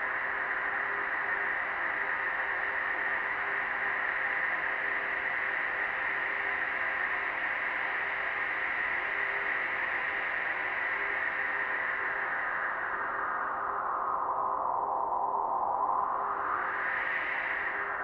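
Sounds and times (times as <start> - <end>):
faint steady drone: 0.0 - 18.0
steady rushing wind: 0.0 - 18.0.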